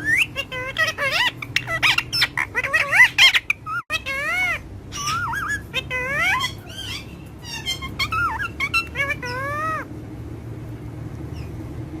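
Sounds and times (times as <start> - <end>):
parrot calling: 0.0 - 9.9.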